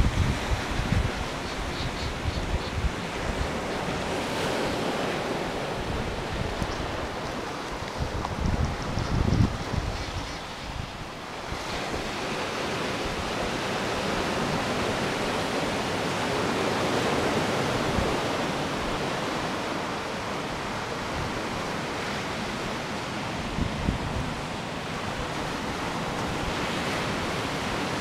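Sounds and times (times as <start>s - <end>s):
surf washing onto rocky shore: 2.8s - 28.0s.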